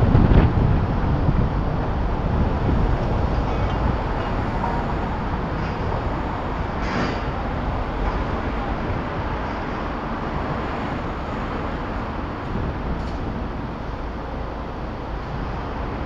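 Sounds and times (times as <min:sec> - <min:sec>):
low road rumble: 0:00.0 - 0:16.0
wind rushing: 0:00.0 - 0:16.0.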